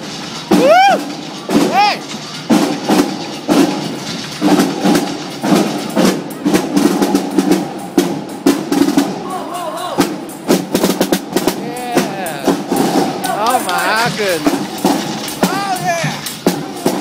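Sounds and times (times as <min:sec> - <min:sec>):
bass drum: 0:00.0 - 0:09.2, 0:10.0 - 0:17.0
snare drum rolls: 0:00.0 - 0:17.0.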